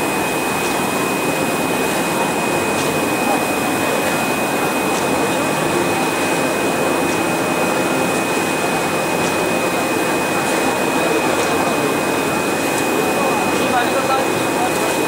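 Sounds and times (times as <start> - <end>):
die-cutting machine running: 0.0 - 15.0.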